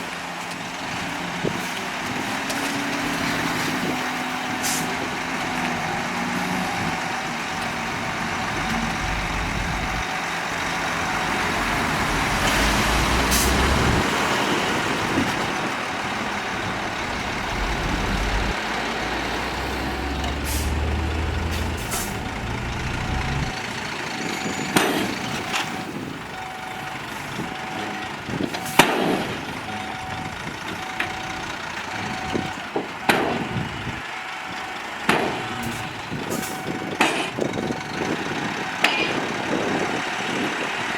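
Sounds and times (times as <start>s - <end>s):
diesel machinery engine rumble: 0.0s - 40.9s.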